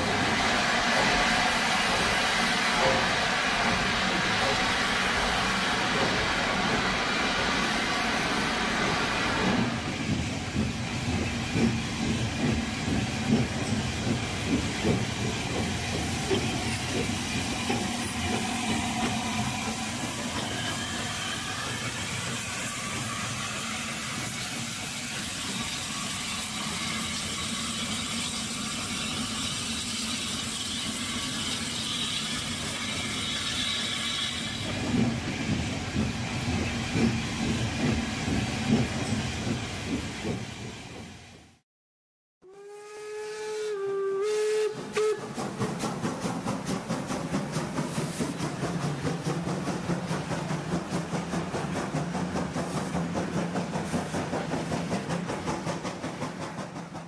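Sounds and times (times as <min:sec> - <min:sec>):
locomotive chuffs: 0:00.0 - 0:41.5, 0:44.4 - 0:57.0
steam locomotive hissing: 0:00.0 - 0:41.6, 0:42.6 - 0:57.0.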